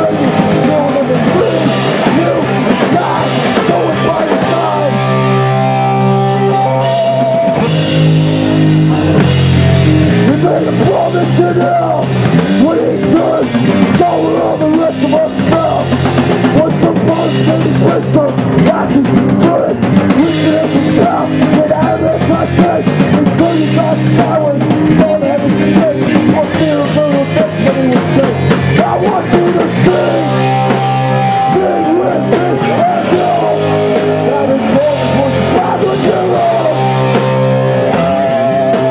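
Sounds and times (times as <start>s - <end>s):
person singing into microphone: 0.0s - 5.3s, 6.2s - 7.8s, 10.2s - 38.9s
distorted electric guitars: 0.0s - 38.9s
pounding drum kit: 0.0s - 38.9s.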